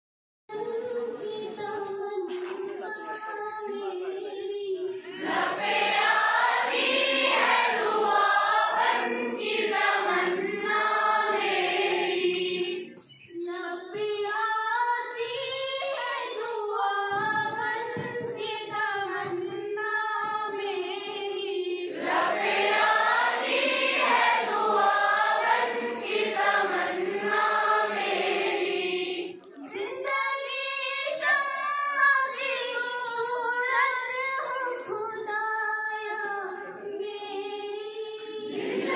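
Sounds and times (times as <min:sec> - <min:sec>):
children singing in unison: 0:04.8 - 0:35.4, 0:36.0 - 0:38.9.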